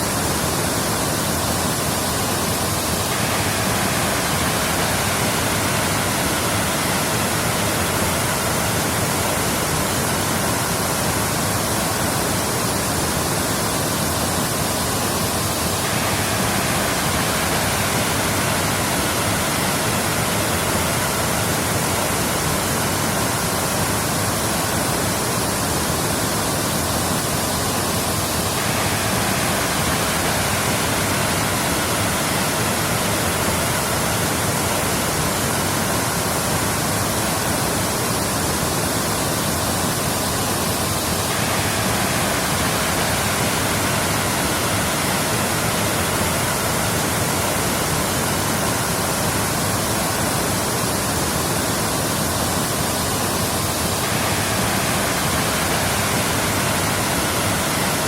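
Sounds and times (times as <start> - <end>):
waterfall: 0.0 - 58.0.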